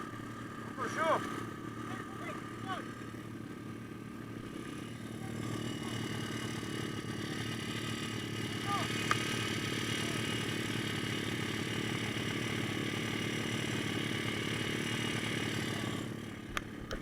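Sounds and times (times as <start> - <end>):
pit bike engine running: 0.0 - 17.0.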